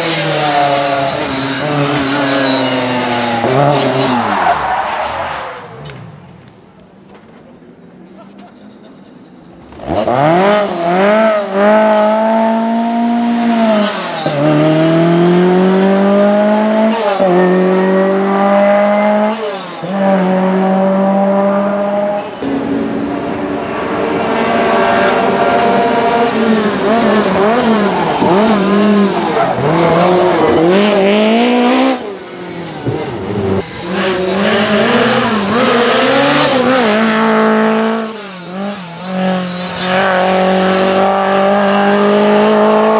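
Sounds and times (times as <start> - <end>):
car engine revving with upshifts: 0.0 - 6.6, 9.5 - 42.9.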